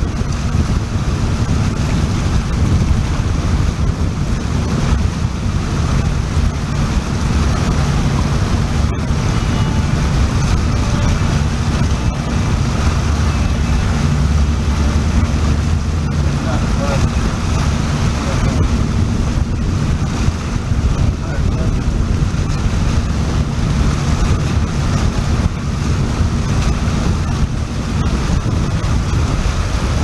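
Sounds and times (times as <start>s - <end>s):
boat engine running: 0.0s - 30.0s
water: 0.0s - 30.0s
wind on microphone: 0.0s - 30.0s.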